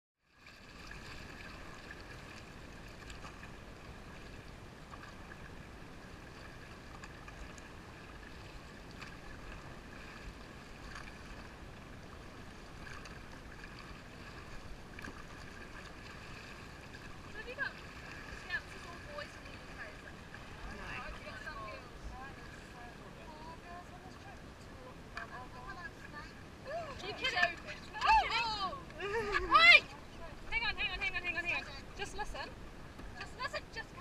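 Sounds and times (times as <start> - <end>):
paddle splashes: 0.3 - 34.0
river water rushing: 0.4 - 34.0.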